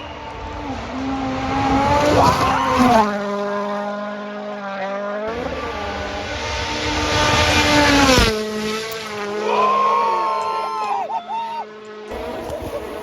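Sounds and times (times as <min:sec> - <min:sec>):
car engine running: 0:00.0 - 0:09.5, 0:11.7 - 0:13.0.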